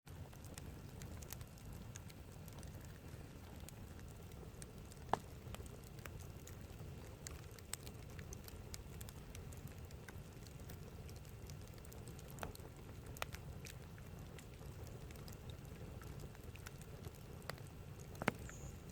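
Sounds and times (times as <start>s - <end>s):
campfire crackling and popping: 0.1s - 18.9s.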